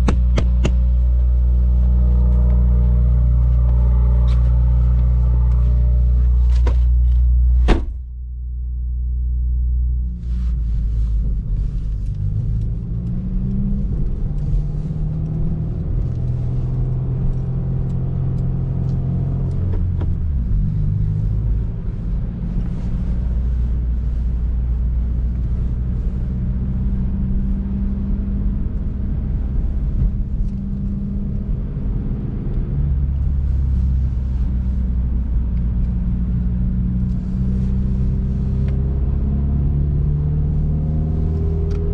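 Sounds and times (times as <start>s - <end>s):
car engine and exhaust: 0.0s - 41.9s
road noise: 0.0s - 41.9s.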